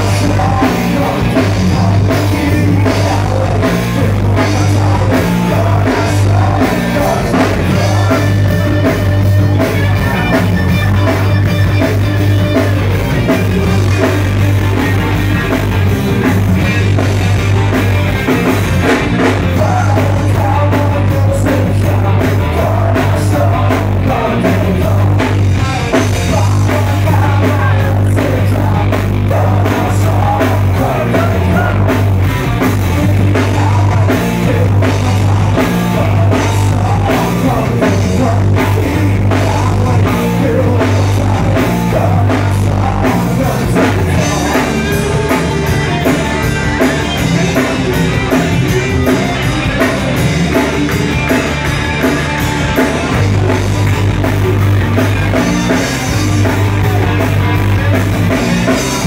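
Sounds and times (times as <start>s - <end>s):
person singing: 0.0s - 15.1s, 18.8s - 57.3s
rock band playing: 0.0s - 59.0s.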